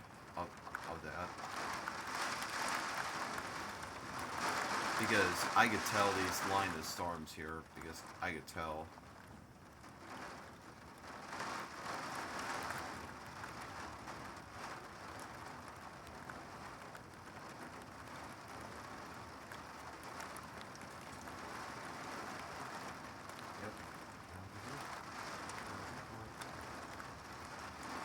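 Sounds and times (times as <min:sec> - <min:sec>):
gusting wind: 0:00.0 - 0:28.0
heavy rain: 0:00.0 - 0:28.0
raindrops ticking: 0:00.0 - 0:28.0.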